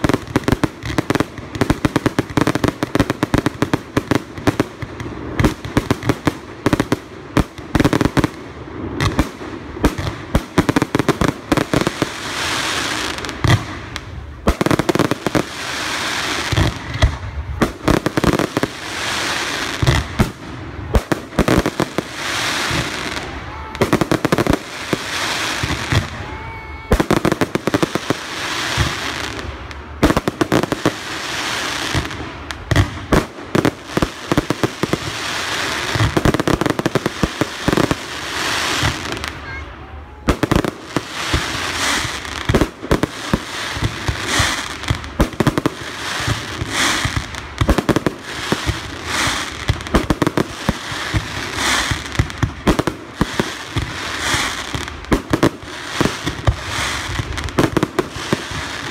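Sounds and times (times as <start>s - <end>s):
fireworks crackling: 0.0s - 58.9s.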